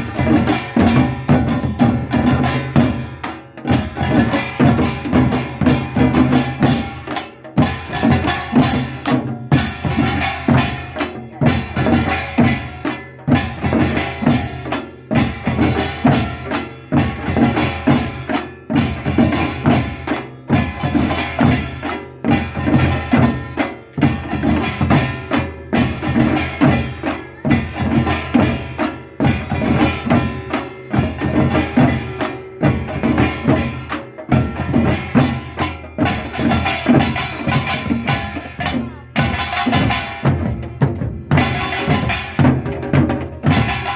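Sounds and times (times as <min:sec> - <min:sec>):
percussion ensemble drums and gongs: 0:00.0 - 0:43.9.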